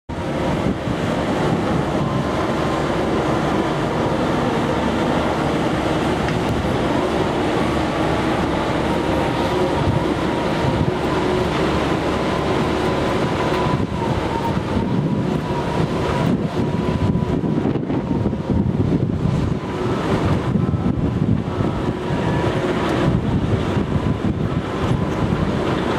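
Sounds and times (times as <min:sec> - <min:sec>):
construction machinery engines: 0:00.1 - 0:25.9
faint steady whine: 0:00.1 - 0:25.9.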